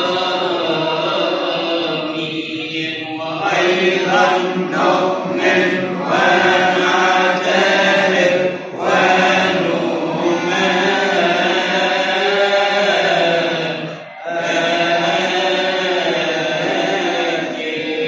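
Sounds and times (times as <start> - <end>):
man chanting melismatic line: 0.0 - 18.0.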